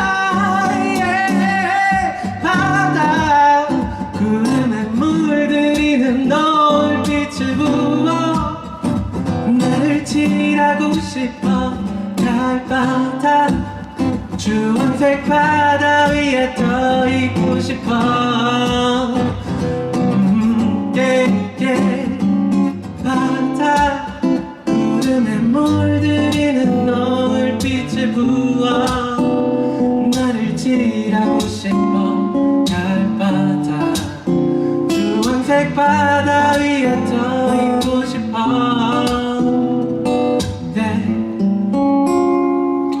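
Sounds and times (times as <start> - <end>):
person wordless singing: 0.0 - 41.4
strummed acoustic guitar: 0.0 - 43.0.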